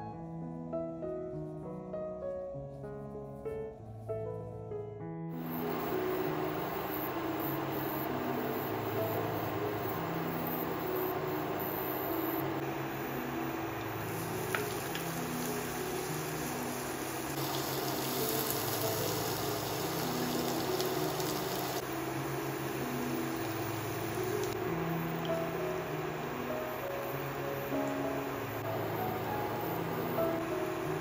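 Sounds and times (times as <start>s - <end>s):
onions sizzling in a pan: 5.4s - 31.0s.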